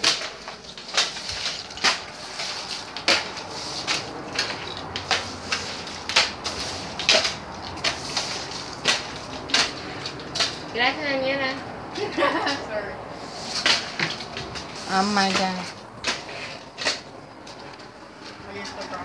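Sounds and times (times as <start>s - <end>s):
footsteps on gritty concrete: 0.0s - 11.1s, 13.1s - 19.0s.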